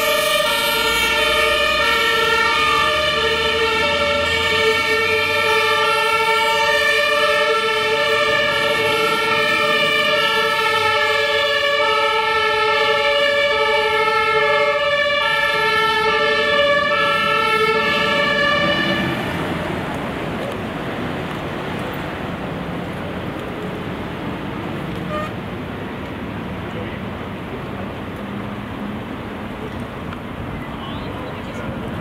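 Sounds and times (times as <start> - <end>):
fire engine two-tone sirens: 0.0 - 26.0
street traffic noise: 0.0 - 32.0.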